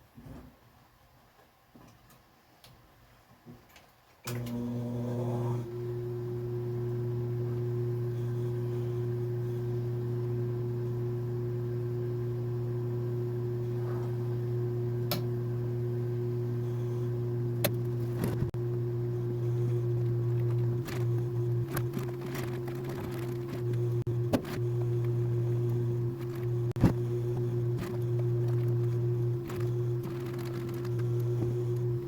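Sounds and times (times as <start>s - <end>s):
sewing machine motor humming: 4.3s - 32.0s.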